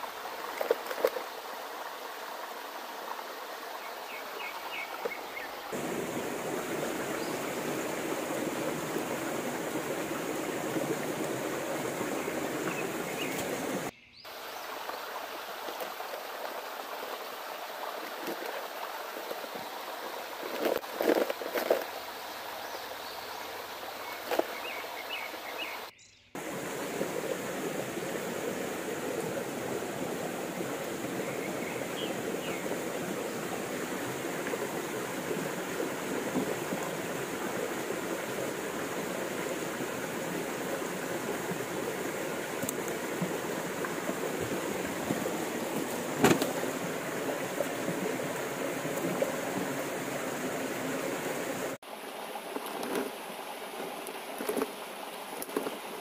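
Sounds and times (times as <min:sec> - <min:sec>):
creek flowing: 0:00.0 - 0:56.0.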